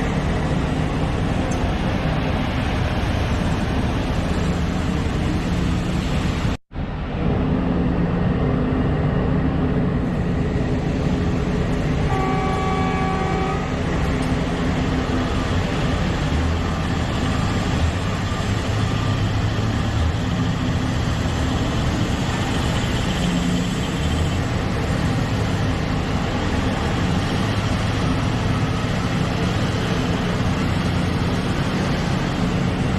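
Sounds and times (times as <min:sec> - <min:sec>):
excavator diesel engine: 0:00.0 - 0:32.9.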